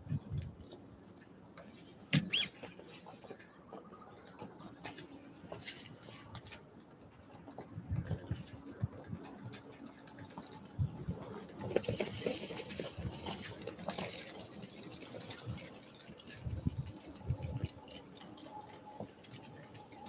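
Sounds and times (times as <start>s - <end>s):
rustle: 0.1s - 20.0s.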